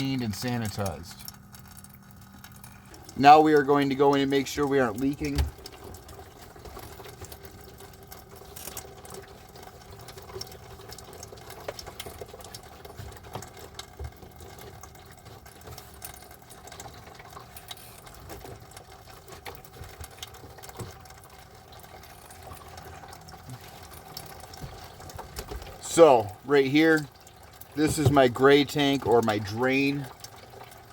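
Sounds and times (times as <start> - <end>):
water pump humming: 0.0 - 30.9
water trickling and splashing: 0.0 - 30.9.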